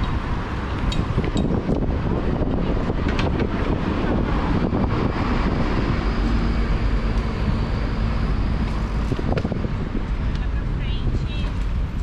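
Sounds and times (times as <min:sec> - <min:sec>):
city street traffic: 0:00.0 - 0:12.0
wind rumbling on microphone: 0:00.0 - 0:12.0.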